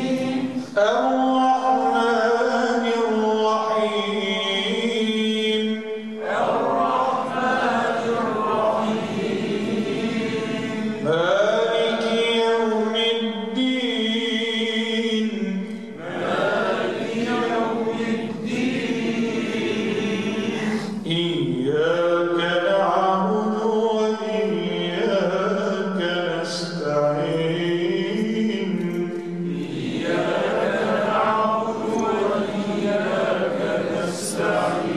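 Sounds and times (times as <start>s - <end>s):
man chanting recitation: 0.0s - 34.9s.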